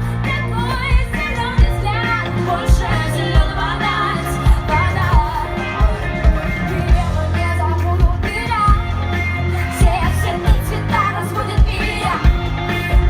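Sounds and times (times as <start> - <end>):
bass line: 0.0 - 13.0.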